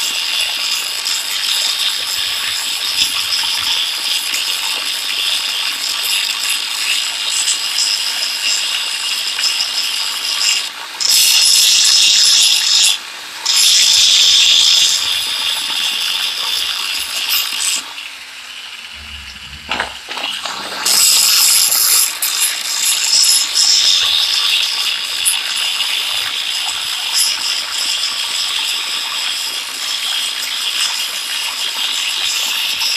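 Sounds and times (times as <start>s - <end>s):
angle grinder grinding metal: 0.0s - 17.9s, 18.9s - 31.2s.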